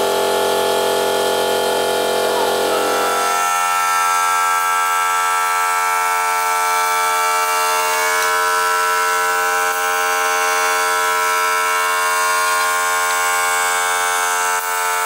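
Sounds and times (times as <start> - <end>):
buzzing drone: 0.0 - 15.0.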